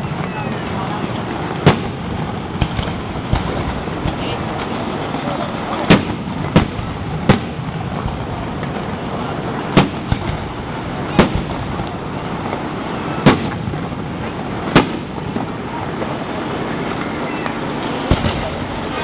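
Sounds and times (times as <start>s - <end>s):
fireworks exploding: 0.0s - 19.0s
outdoor background noise: 0.0s - 19.0s.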